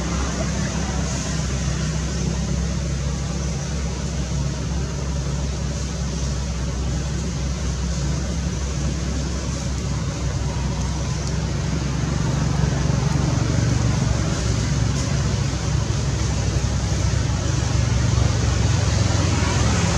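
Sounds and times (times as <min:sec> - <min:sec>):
low engine rumble: 0:00.0 - 0:19.9.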